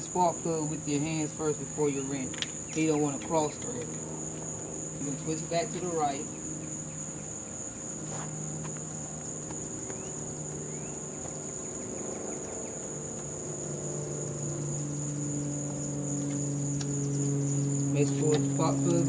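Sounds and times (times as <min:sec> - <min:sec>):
insect chorus: 0:00.0 - 0:19.0
low steady hum: 0:00.0 - 0:19.0.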